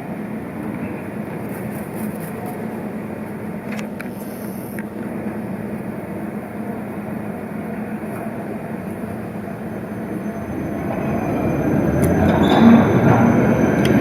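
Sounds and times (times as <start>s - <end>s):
tram humming on track: 0.0s - 14.0s.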